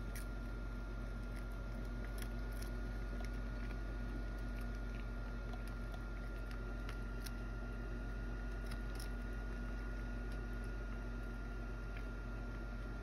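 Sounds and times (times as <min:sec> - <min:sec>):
cat chewing crunchy food: 0:00.0 - 0:13.0.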